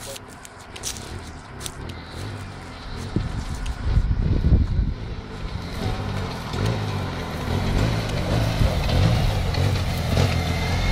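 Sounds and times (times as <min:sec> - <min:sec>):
utility vehicle engine droning: 0:00.0 - 0:10.9
low bumps: 0:00.6 - 0:10.9.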